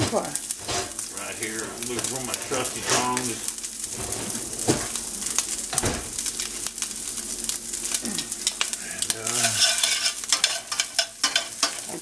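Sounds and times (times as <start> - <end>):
bacon sizzling and popping in a pan: 0.0 - 12.0.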